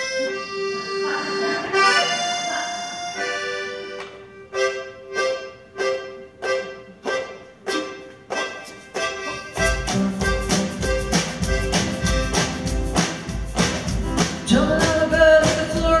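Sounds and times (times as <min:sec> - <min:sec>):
accordion chords: 0:00.0 - 0:16.0.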